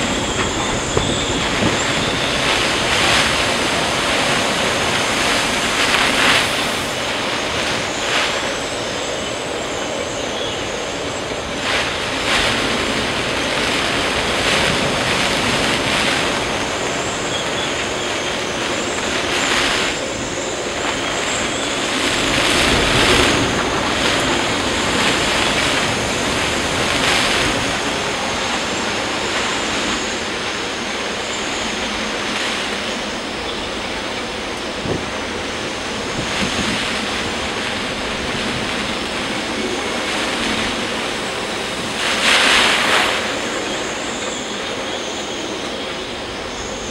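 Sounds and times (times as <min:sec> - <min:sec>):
surf breaking over breakwater: 0:00.0 - 0:46.9
wind buffeting microphone: 0:00.0 - 0:46.9.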